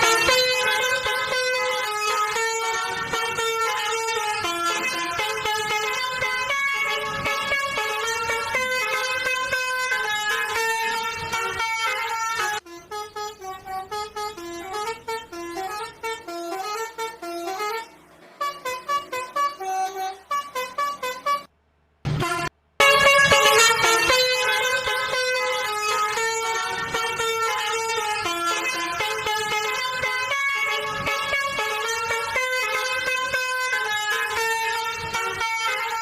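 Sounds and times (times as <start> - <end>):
multi-tone bus horn melody: 0.0 - 21.5, 22.1 - 36.0.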